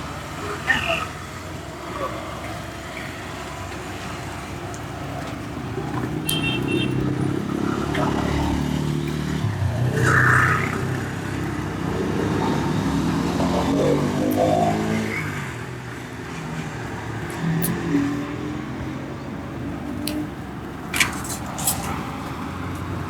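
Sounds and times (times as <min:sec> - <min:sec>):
car and motorcycle engines passing: 0:00.0 - 0:23.0.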